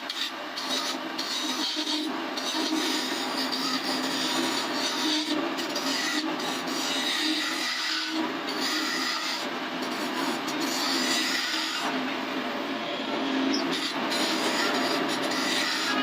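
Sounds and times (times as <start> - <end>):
tool scraping spinning wood: 0.0 - 12.0, 13.3 - 16.0
lathe humming: 0.0 - 16.0.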